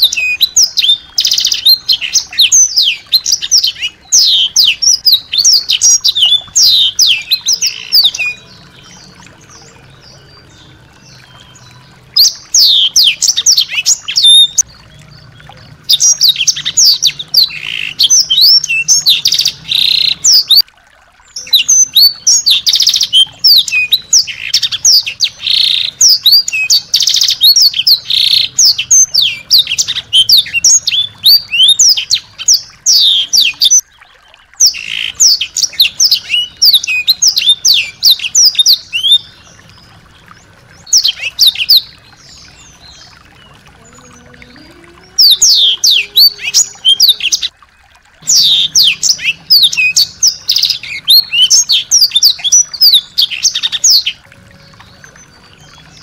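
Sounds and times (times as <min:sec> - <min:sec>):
songbird chirping: 0:00.0 - 0:20.6, 0:21.2 - 0:56.0.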